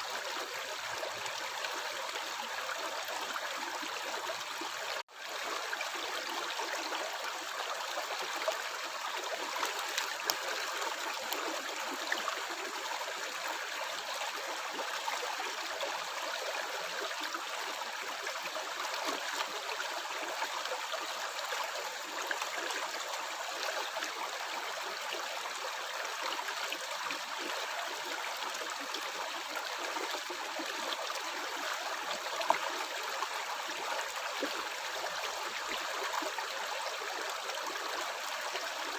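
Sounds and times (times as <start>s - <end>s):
water flowing and gurgling: 0.0s - 38.9s.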